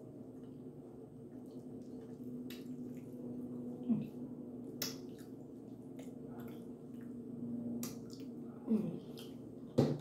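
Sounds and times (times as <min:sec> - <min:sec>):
steady low hum: 0:00.0 - 0:10.0
wet chewing with lip smacks: 0:00.2 - 0:09.8.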